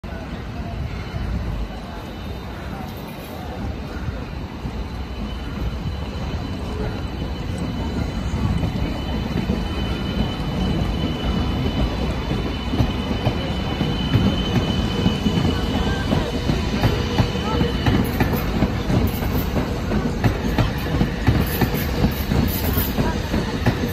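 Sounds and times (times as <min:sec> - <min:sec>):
train wheels rumbling on rail: 0:00.1 - 0:23.9.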